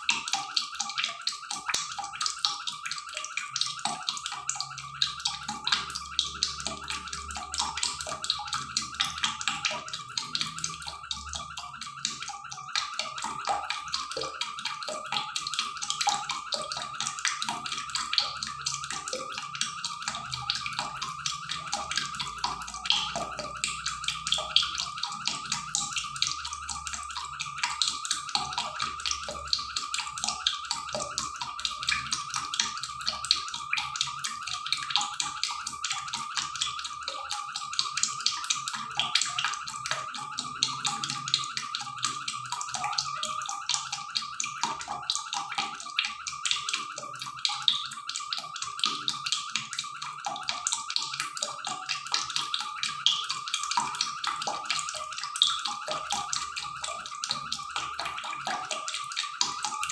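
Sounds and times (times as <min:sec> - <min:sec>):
broth simmering and bubbling: 0:00.0 - 0:59.9.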